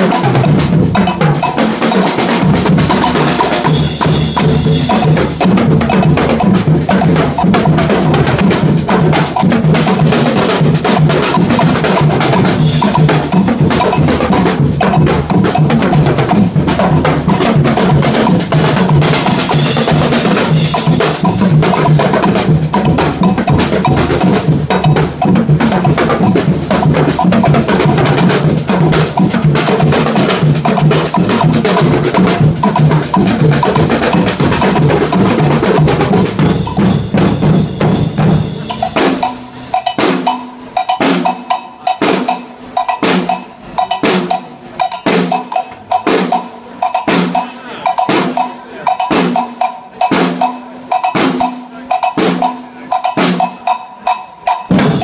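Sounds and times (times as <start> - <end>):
bass drums: 0.0 - 46.3, 54.7 - 55.0
snare drums: 0.0 - 55.0.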